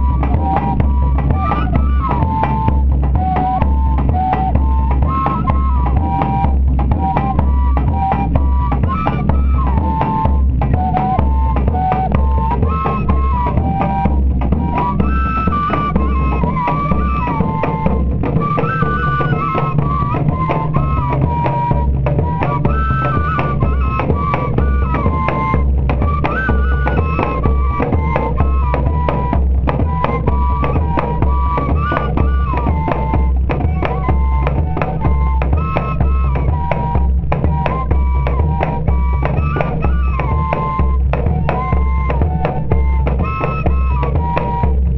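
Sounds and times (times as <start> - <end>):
dense drumming with deep beat: 0.0 - 44.9
fife melody: 0.0 - 44.9.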